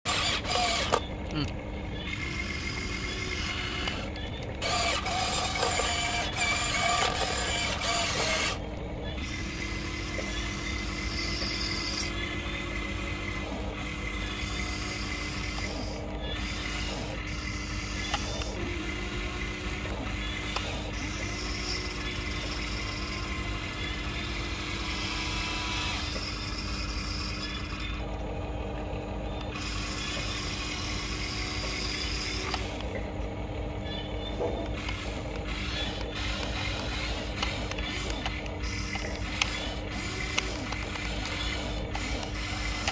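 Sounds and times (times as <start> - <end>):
toy excavator motors whining: 0.0 - 42.9
steady hum: 0.1 - 42.9.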